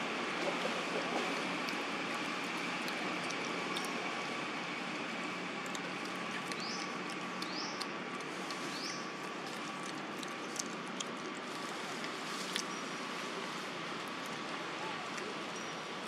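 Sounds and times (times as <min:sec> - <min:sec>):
constant hiss: 0:00.0 - 0:16.0
faint steady hum: 0:00.0 - 0:16.0.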